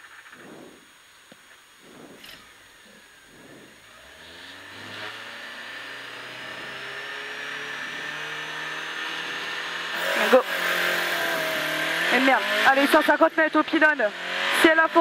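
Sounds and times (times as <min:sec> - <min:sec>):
car engine revving: 0:01.8 - 0:15.0.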